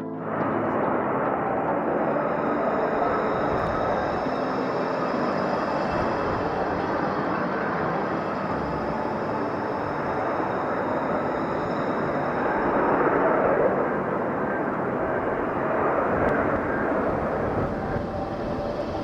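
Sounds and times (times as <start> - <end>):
jet engine rushing: 0.2 - 19.0.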